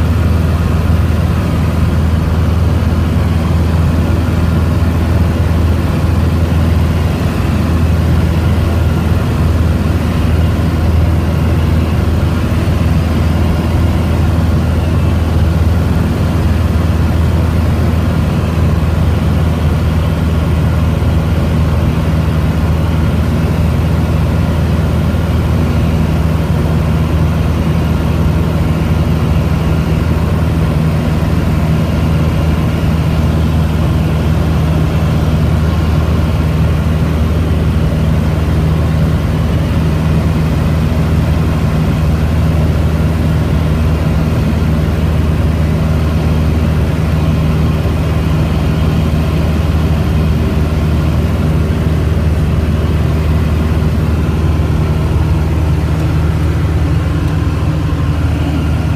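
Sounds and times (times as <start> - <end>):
aircraft engine droning: 0.0 - 58.9.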